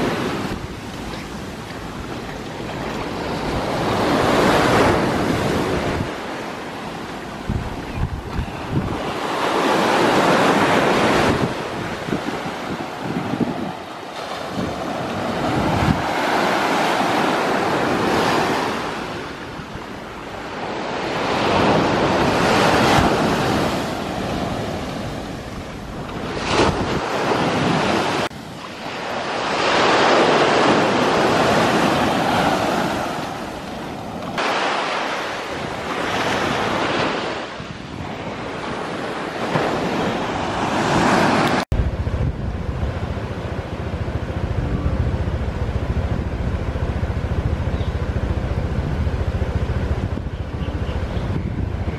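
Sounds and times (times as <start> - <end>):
wind buffeting microphone: 0.0 - 29.5, 30.2 - 51.9
waves breaking ashore: 0.0 - 51.9.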